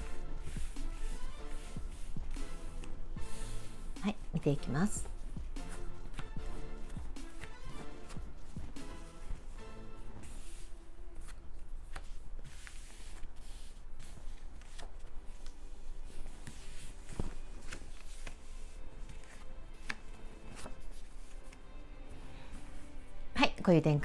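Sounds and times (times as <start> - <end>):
cards sliding and rustling: 0.0 - 4.0, 5.0 - 21.6.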